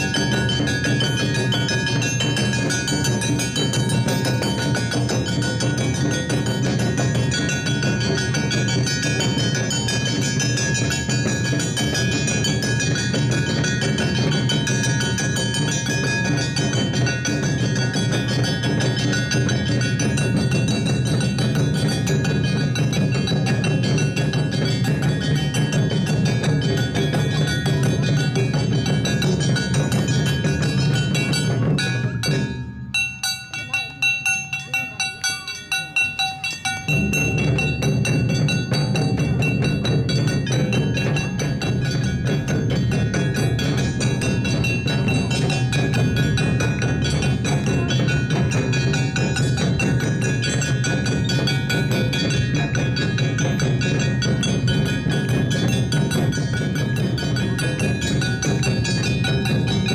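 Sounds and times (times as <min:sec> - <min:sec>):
clanging hand gongs: 0:00.0 - 0:59.9
drums: 0:00.0 - 0:59.9
festival band playing: 0:00.0 - 0:59.9.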